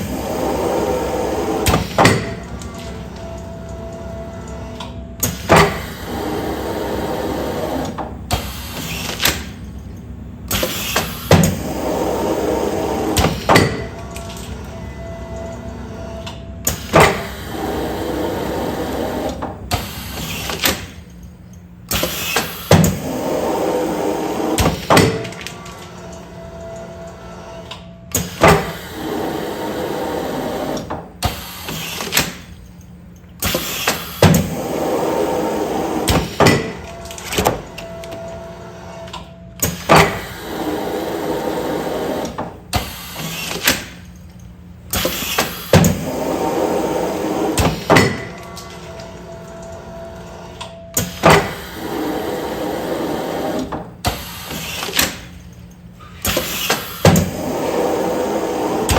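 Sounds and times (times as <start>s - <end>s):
motor hum: 0.0s - 31.2s, 34.2s - 42.9s, 44.0s - 54.2s, 55.3s - 58.9s.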